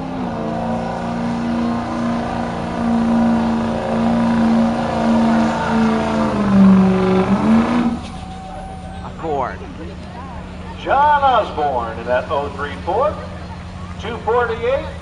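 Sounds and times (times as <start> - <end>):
tractor engine running hard: 0.0 - 15.0.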